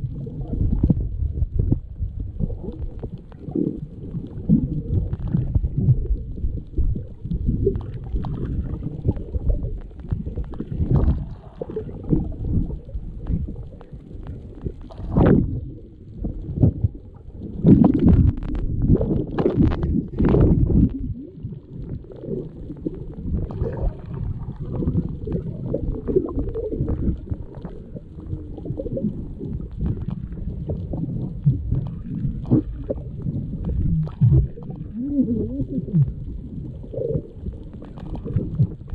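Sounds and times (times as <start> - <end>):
muffled underwater water rumble: 0.0 - 38.9.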